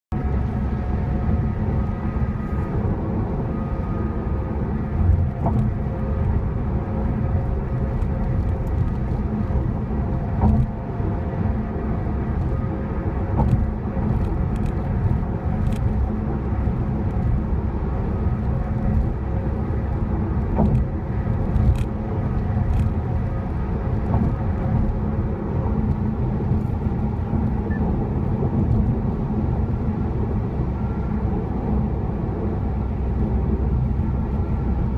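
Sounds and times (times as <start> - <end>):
car cabin road noise: 0.1 - 34.9.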